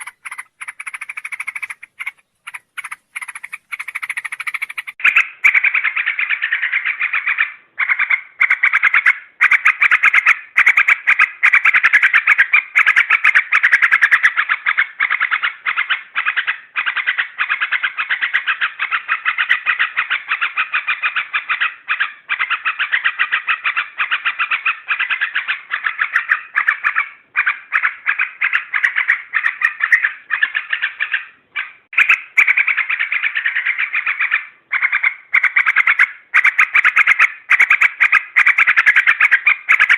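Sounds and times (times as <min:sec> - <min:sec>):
bulbul calls: 0:00.0 - 0:39.9.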